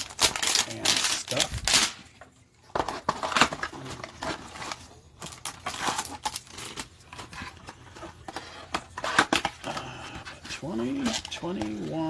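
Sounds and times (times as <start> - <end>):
crinkling and rustling wrapping: 0.0 - 12.0.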